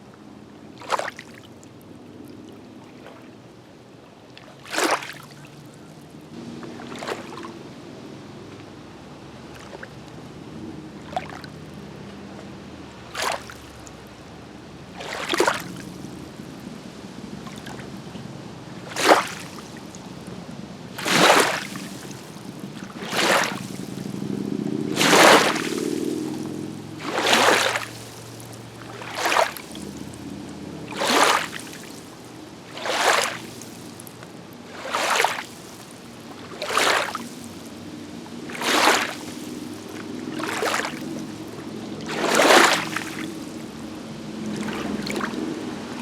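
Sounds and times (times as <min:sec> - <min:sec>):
low wash of water: 0:00.0 - 0:46.0
waves splashing against shore: 0:00.7 - 0:46.0.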